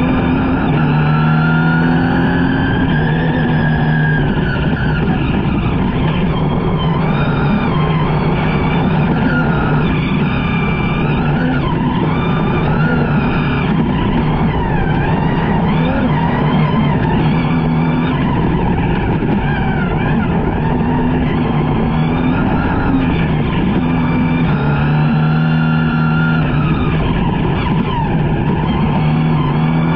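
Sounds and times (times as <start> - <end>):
rally truck engine at speed: 0.0 - 29.9.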